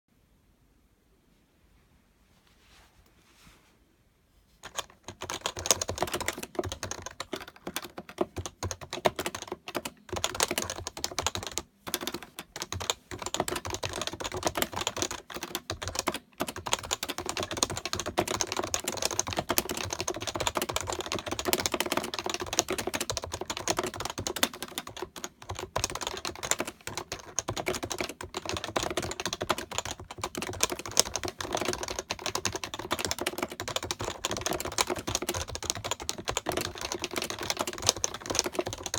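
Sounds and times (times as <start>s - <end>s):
fast keyboard typing: 4.6s - 38.9s.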